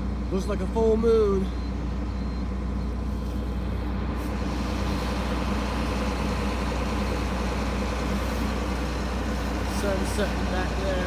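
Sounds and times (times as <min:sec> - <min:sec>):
large diesel engine running: 0:00.0 - 0:11.0.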